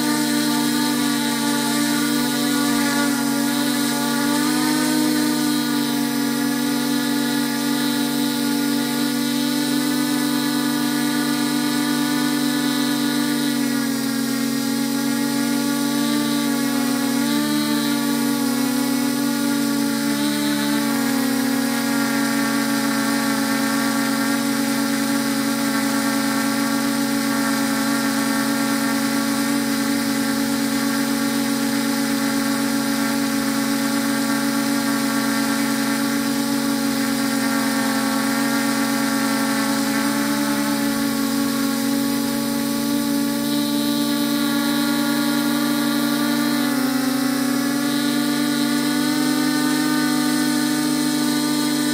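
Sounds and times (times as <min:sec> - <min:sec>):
drone propellers buzzing: 0:00.0 - 0:51.9.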